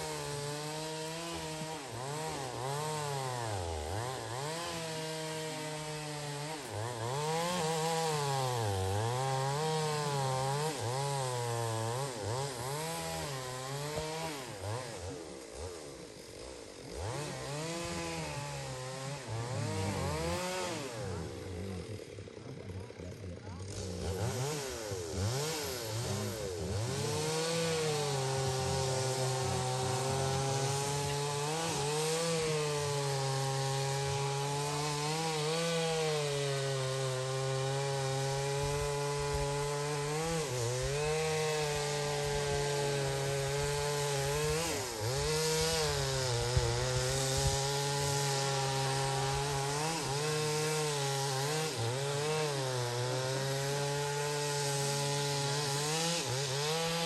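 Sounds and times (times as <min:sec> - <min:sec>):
small engine droning: 0:00.0 - 0:57.0.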